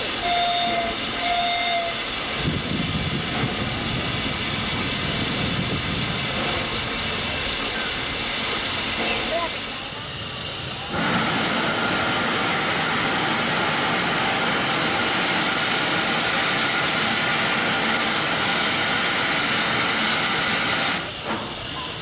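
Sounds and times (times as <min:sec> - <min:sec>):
steam locomotive hissing steam: 0:00.0 - 0:22.0.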